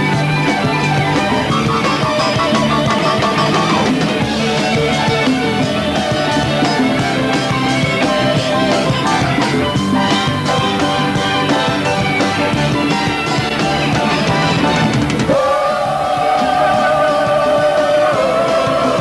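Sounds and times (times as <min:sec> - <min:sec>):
drum kit steady beat: 0:00.0 - 0:19.0
electric guitar lead: 0:00.0 - 0:19.0
live rock band playing: 0:00.0 - 0:19.0.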